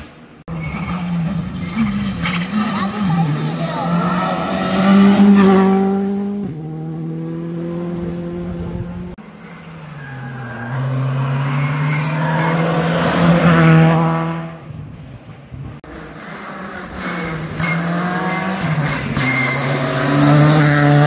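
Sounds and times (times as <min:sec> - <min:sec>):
rally car passing by: 0:00.6 - 0:14.6, 0:15.9 - 0:21.0.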